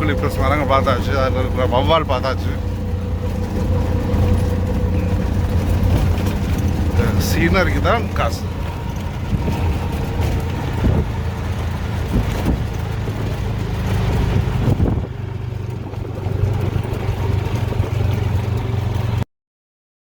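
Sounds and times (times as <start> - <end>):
vehicle engine and road drone: 0.0 - 19.3.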